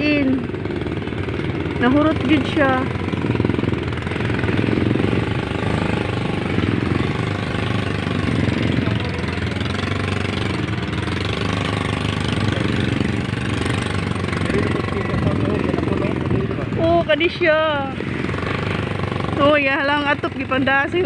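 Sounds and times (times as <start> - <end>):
small motorcycle engine chugging: 0.0 - 21.0.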